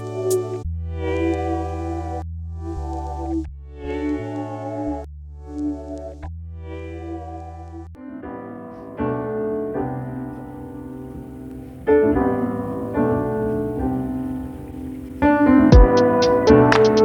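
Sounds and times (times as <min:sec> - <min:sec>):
lo-fi piano chords: 0:00.0 - 0:17.0.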